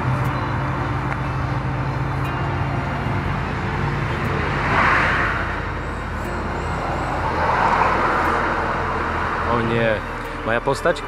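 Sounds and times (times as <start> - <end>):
car engine idling: 0.0 - 11.0
road or wind noise: 0.0 - 11.0.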